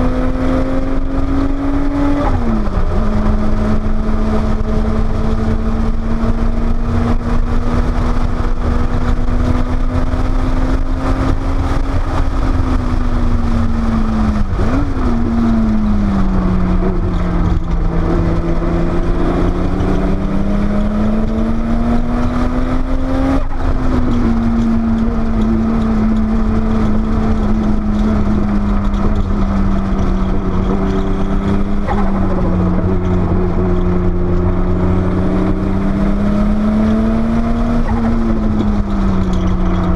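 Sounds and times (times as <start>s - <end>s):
car engine running hard: 0.0s - 39.9s
wind and road noise: 0.0s - 39.9s.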